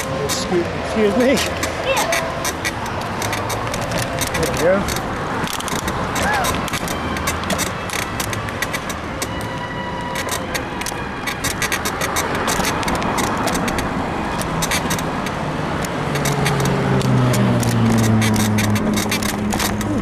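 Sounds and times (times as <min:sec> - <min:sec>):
bicycle tyre noise: 0:00.0 - 0:20.0
bike frame creaking and clicking: 0:00.0 - 0:20.0
vehicle engine hum: 0:00.0 - 0:20.0
wind: 0:00.0 - 0:20.0.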